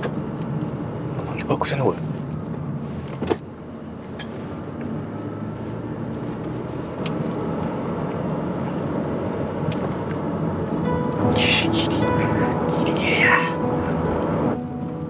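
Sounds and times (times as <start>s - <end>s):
road and tyre noise in car: 0.0s - 15.0s.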